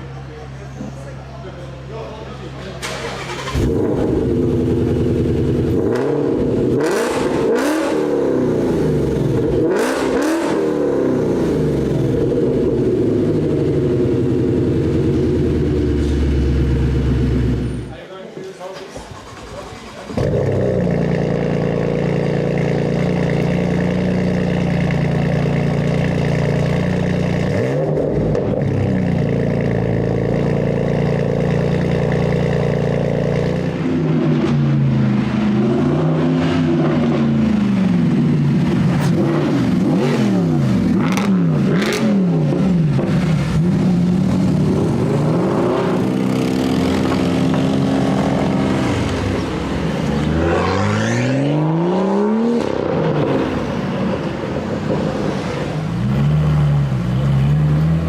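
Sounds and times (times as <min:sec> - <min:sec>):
sports car engine revving: 0:02.8 - 0:17.9, 0:19.1 - 0:58.0.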